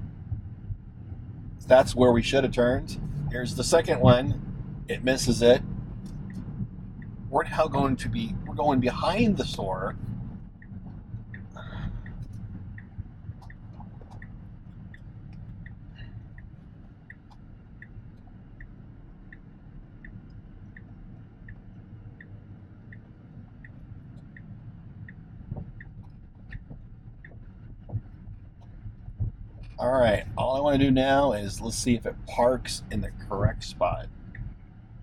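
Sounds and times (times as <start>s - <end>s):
road rumble in car cabin: 0.0s - 35.0s
turn signal indicator ticking: 0.0s - 35.0s.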